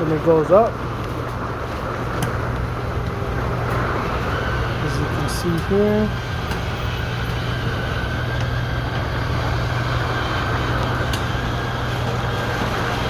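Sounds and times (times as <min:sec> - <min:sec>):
electric motor humming: 0:02.2 - 0:13.0.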